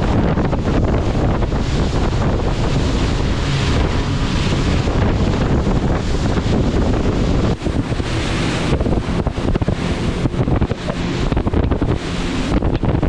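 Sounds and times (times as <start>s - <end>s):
engine drone: 0.0s - 13.0s
water rushing past hull: 0.0s - 13.0s
wind buffeting microphone: 0.0s - 13.0s.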